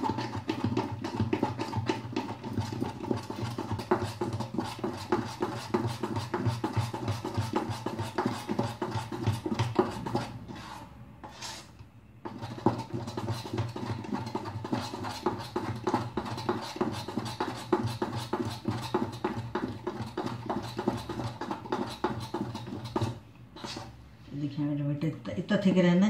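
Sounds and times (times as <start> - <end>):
batter slapping in steel bowl: 0.0 - 10.5, 12.3 - 24.0.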